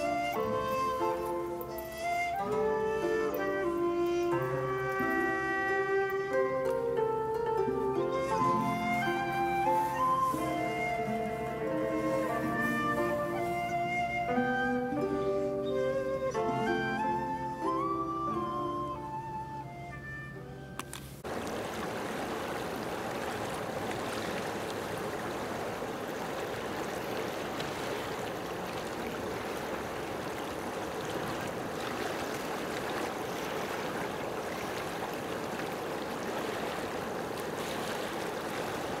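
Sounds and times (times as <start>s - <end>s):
running water rushing: 0.0s - 39.0s.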